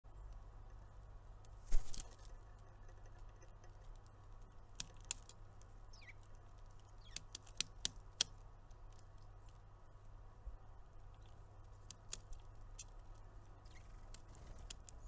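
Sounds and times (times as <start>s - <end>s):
low steady hum: 0.0s - 15.0s
birds tapping at feeders: 0.1s - 9.7s, 10.9s - 15.0s.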